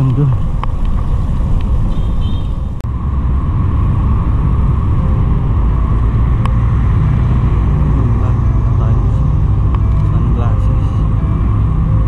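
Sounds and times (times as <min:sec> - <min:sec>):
wind rumble on microphone: 0:00.0 - 0:10.4
road traffic: 0:00.0 - 0:12.0.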